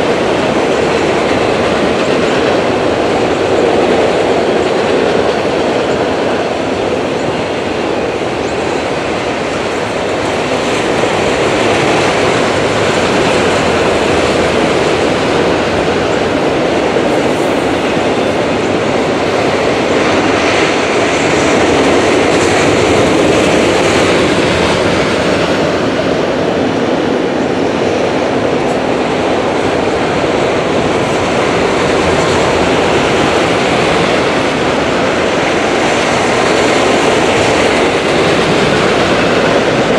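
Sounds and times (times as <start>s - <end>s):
freight cars rolling on rails: 0.0s - 39.9s.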